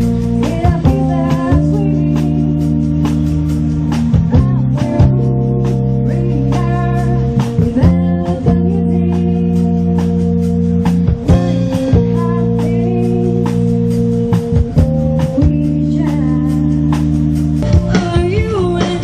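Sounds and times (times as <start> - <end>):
guitar: 0.0 - 19.0
keyboard chords: 0.0 - 19.0.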